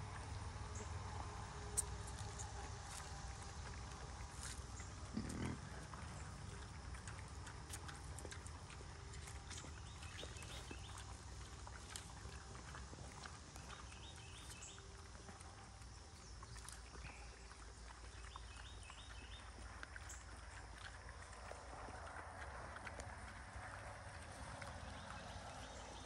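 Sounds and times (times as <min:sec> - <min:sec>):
pigs chewing: 0:00.0 - 0:26.0
pigs snuffling: 0:00.0 - 0:26.0.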